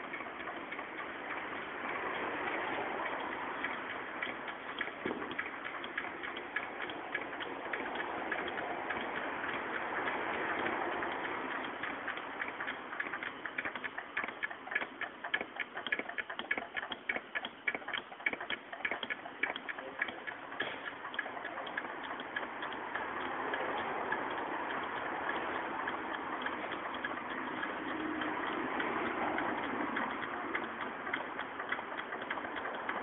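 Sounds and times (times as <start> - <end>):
rapid ticking clicks: 0.0 - 33.0.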